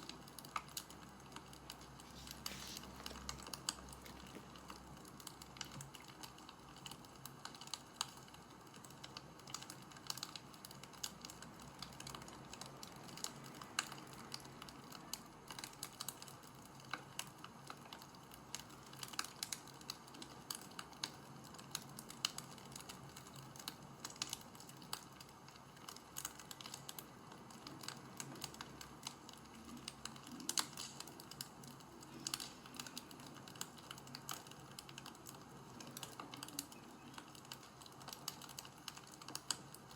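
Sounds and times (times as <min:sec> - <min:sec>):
faint steady hiss: 0:00.0 - 0:39.9
light clicking and crackling: 0:00.0 - 0:39.9.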